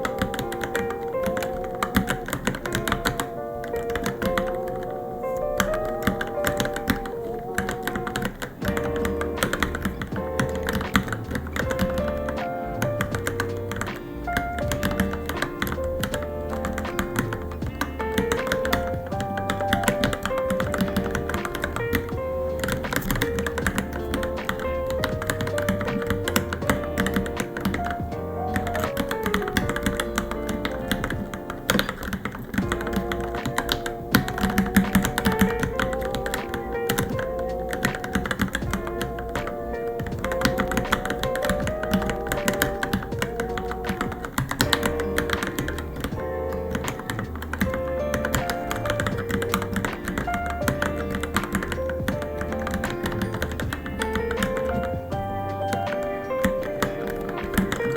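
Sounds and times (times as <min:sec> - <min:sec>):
background music with melody: 0:00.0 - 0:57.9.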